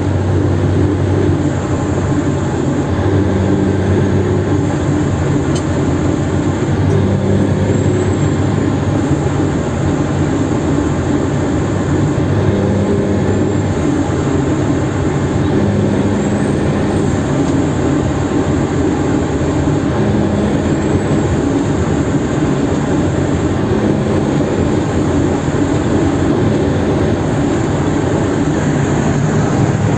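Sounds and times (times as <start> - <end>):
heavy truck engine running: 0.0 - 29.9
road noise: 0.0 - 29.9.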